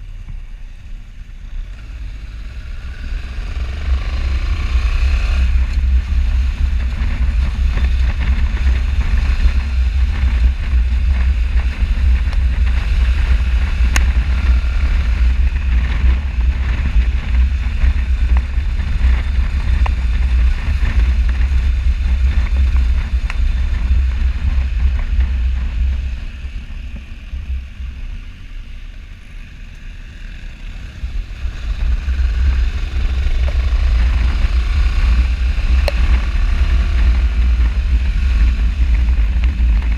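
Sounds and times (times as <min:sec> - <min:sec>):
low motorcycle engine rumble: 0:00.0 - 0:39.9
wind buffeting microphone: 0:01.4 - 0:29.7, 0:30.5 - 0:39.9.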